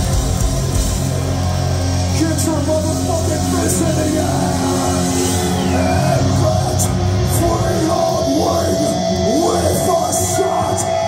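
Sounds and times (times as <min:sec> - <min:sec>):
bass guitar: 0:00.0 - 0:11.0
distorted electric guitars: 0:00.0 - 0:11.0
drums: 0:00.0 - 0:11.0.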